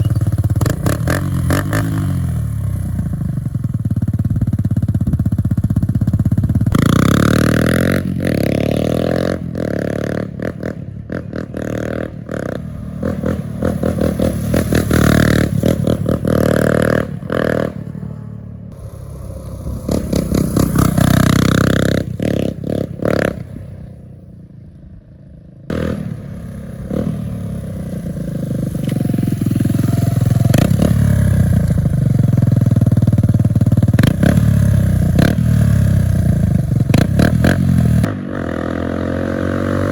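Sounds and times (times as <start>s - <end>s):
motorcycle engine revving: 0.0s - 24.2s, 25.6s - 39.9s.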